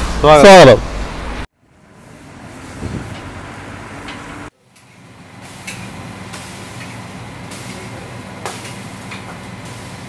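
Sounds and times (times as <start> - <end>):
kitchen hum: 0.0 - 10.0
outdoor background noise: 0.0 - 10.0.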